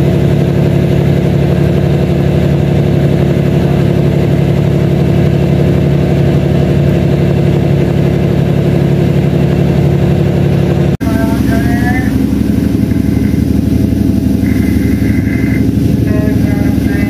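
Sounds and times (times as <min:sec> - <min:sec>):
boat engine low drone: 0:00.0 - 0:17.0.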